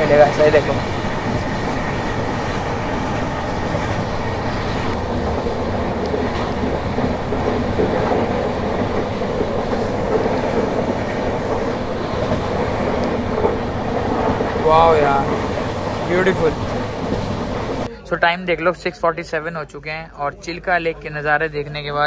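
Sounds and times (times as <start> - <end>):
train wheels on rails: 0.0 - 17.9.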